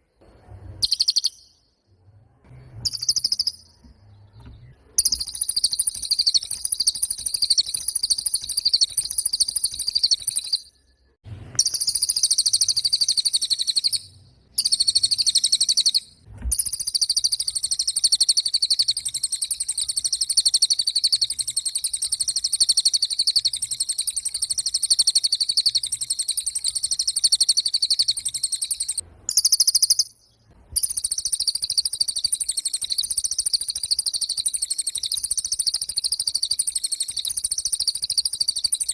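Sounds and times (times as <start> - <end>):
bird singing rapid trill: 0.6 - 1.9, 2.7 - 38.9.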